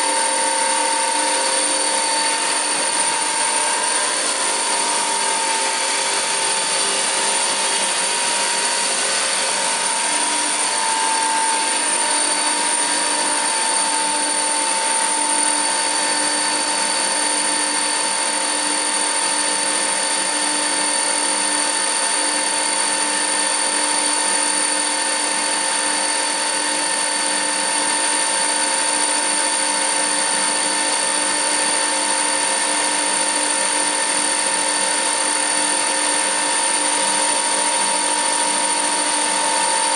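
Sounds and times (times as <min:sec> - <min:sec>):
planer moulder high whine: 0:00.0 - 0:39.9.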